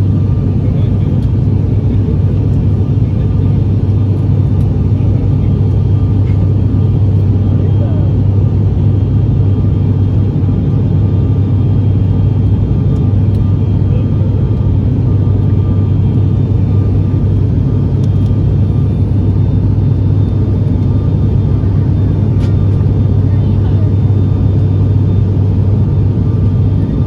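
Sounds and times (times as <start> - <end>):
turboprop engine drone: 0.0 - 27.0.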